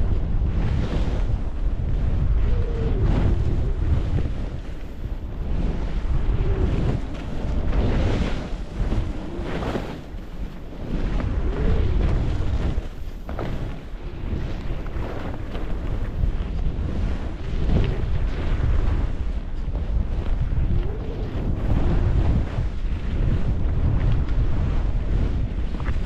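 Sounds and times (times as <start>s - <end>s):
wind rushing over microphone: 0.0s - 26.0s
skis scraping on snow: 3.0s - 26.0s.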